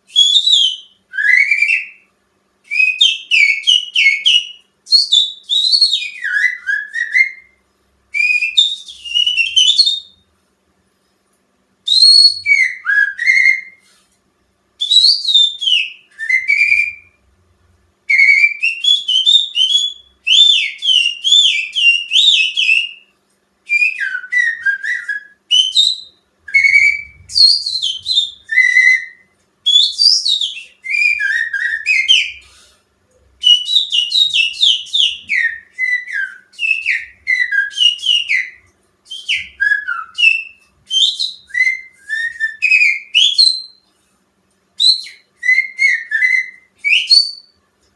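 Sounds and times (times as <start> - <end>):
finger whistling birdsong: 0.1 - 7.6, 8.2 - 10.2, 11.9 - 13.9, 14.8 - 17.2, 18.1 - 43.9, 44.8 - 47.6.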